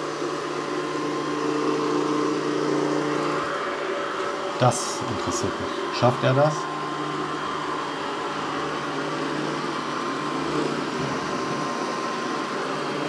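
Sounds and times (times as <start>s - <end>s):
robot vacuum motor hum: 0.0s - 13.0s.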